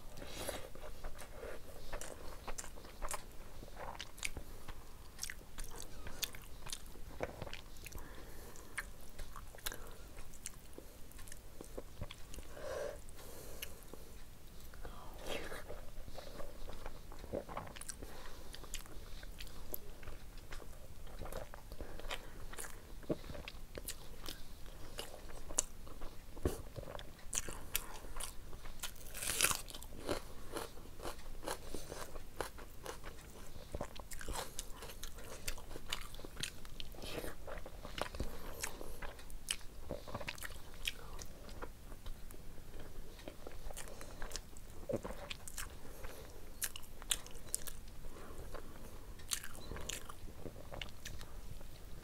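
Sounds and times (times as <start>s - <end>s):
person chewing wetly: 0.1s - 51.7s.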